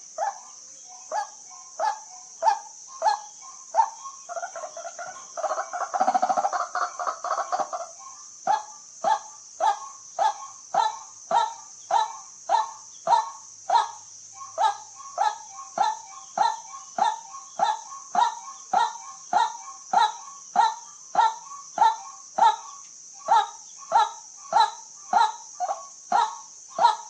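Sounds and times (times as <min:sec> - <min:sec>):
waterhen calling: 0:01.0 - 0:27.0.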